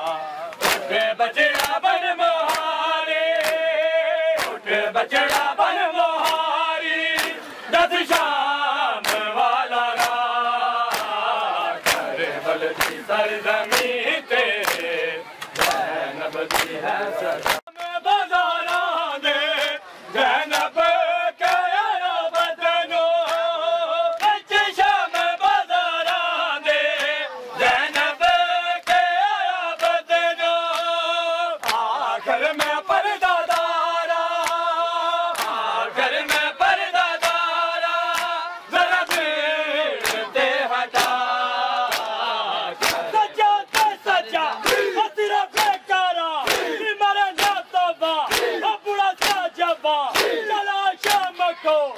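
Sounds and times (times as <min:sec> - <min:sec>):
crowd slapping chests: 0:00.0 - 0:51.9
men chanting lamentation: 0:00.0 - 0:51.9.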